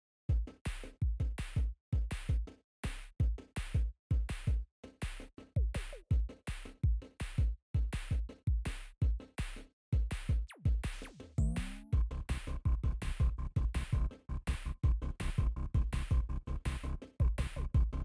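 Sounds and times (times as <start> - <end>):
electronic music with drum-machine beat: 0.3 - 18.0.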